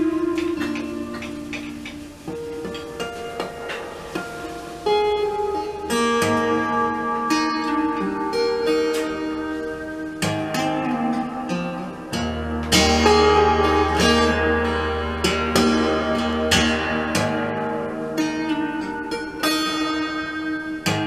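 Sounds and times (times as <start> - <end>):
fingerstyle acoustic guitar: 0.0 - 21.0.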